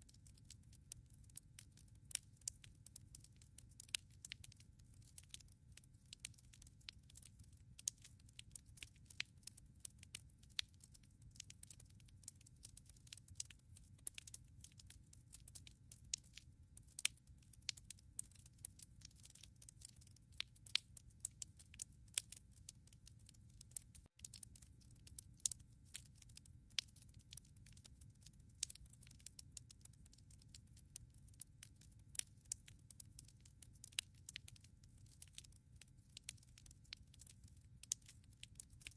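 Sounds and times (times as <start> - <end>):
firewood crackling in fireplace: 0.0 - 38.9.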